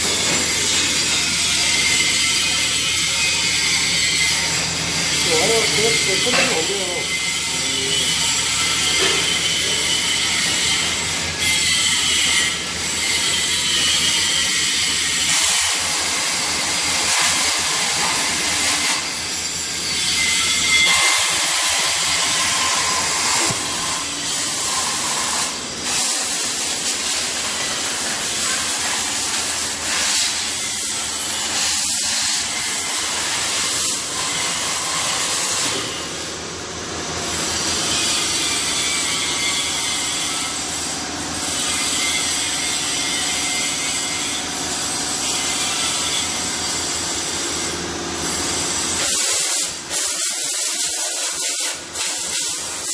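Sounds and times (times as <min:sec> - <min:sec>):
welding arc hissing: 0:00.0 - 0:38.7, 0:48.4 - 0:52.9.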